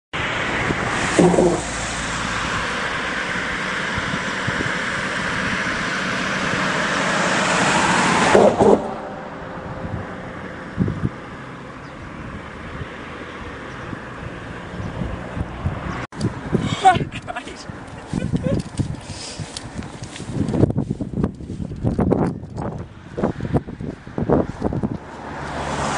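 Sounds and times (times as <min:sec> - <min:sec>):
road traffic passing: 0:00.2 - 0:25.9.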